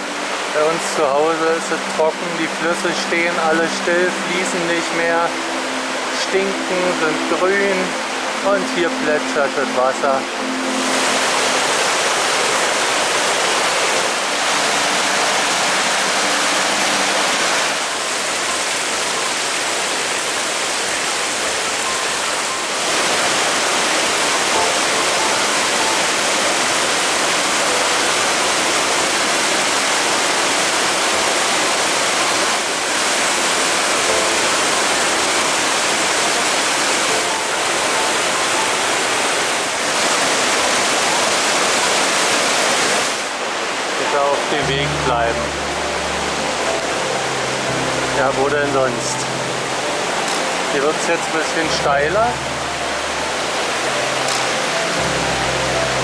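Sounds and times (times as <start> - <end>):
stream cascading over boulders: 0.0 - 56.0.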